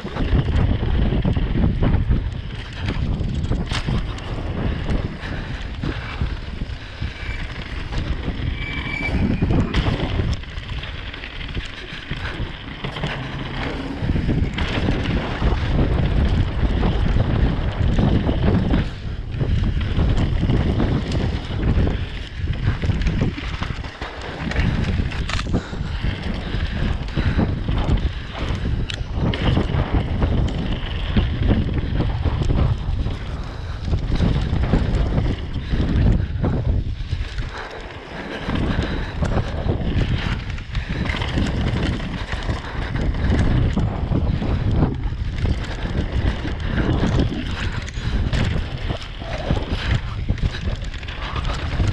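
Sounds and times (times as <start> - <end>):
bike knocks and rattles: 0.0 - 51.9
heavy low rumble: 0.0 - 51.9
wind buffeting microphone: 0.0 - 51.9.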